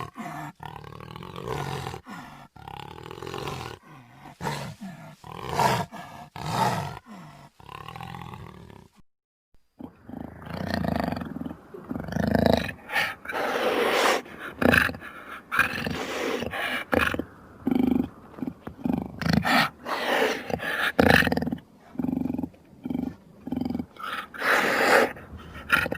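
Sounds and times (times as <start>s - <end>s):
dinosaur growls and roars: 0.0s - 9.0s, 9.8s - 25.9s.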